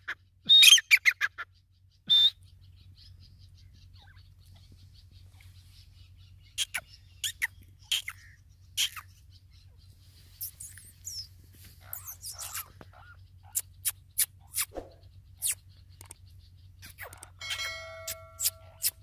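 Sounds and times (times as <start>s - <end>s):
squeaky bird chirps: 0.0s - 4.7s, 6.0s - 9.7s, 10.4s - 19.0s
low steady hum: 0.0s - 19.0s.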